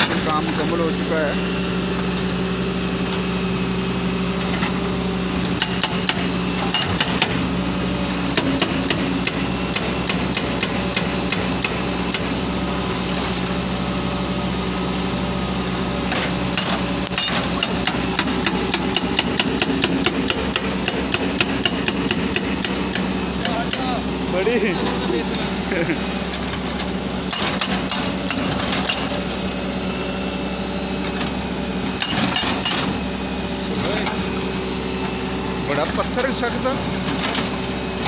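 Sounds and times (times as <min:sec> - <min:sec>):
hydraulic rock breaker hammering: 0:00.0 - 0:13.7, 0:15.7 - 0:30.2, 0:30.8 - 0:38.0
diesel engine running: 0:00.0 - 0:38.0.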